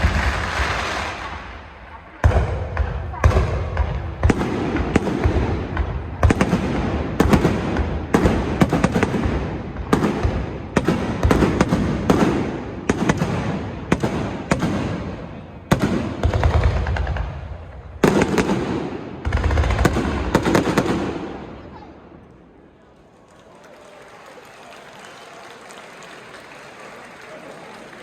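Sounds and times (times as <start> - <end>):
fireworks bursting with rumbling echo: 0.0 - 22.8.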